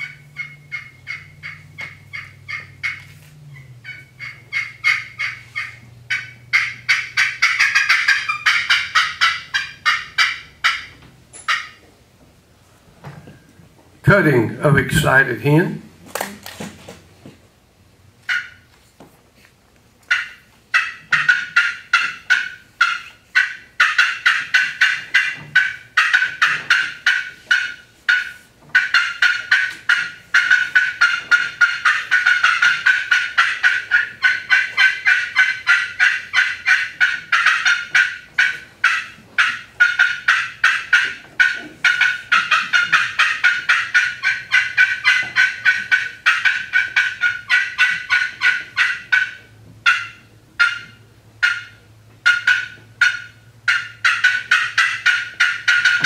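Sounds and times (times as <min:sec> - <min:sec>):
turkey call clucks: 0:00.0 - 0:11.8, 0:18.2 - 0:18.7, 0:20.0 - 0:56.0.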